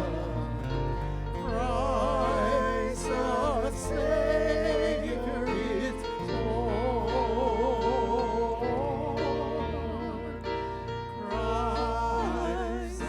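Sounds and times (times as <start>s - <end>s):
person singing a hymn: 0.0s - 13.0s.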